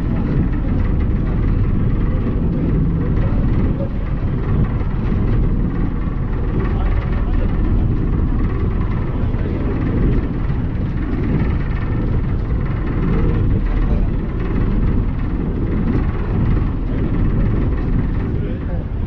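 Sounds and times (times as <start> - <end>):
ferry engine rumbling: 0.0 - 19.0.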